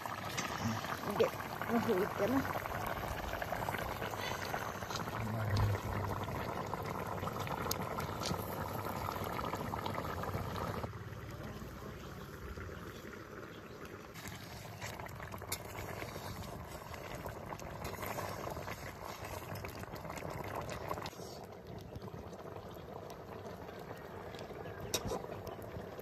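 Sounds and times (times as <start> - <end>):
curry bubbling in a pot: 0.0 - 26.0.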